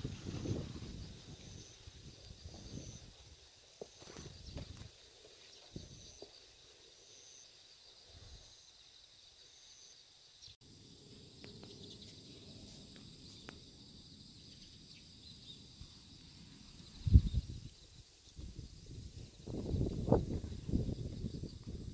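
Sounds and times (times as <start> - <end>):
insects chirring: 0.0 - 21.9.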